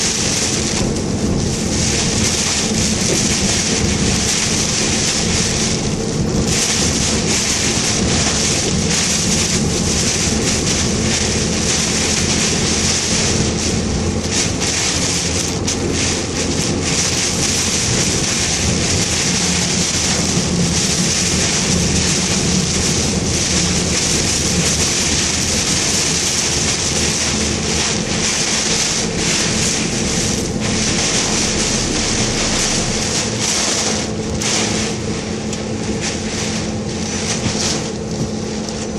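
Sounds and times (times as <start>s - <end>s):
heavy rain and wind on car: 0.0s - 38.9s.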